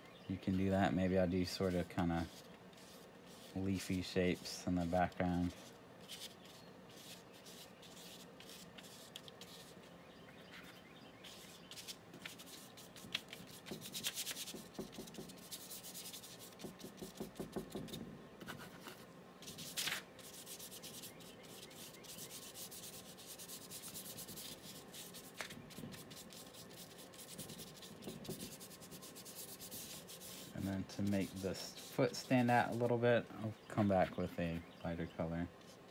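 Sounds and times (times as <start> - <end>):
paintbrush dabbing on paper: 0.6 - 18.0, 18.6 - 33.0.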